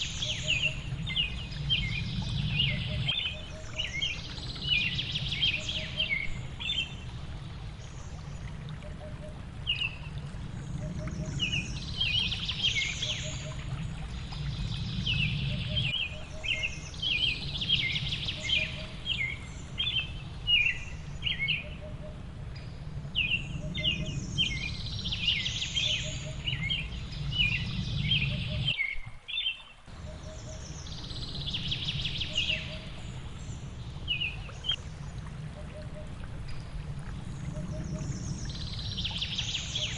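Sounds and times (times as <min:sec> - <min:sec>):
falling water rushing: 0:00.0 - 0:28.9, 0:29.8 - 0:39.9
songbirds chirping: 0:00.0 - 0:39.9.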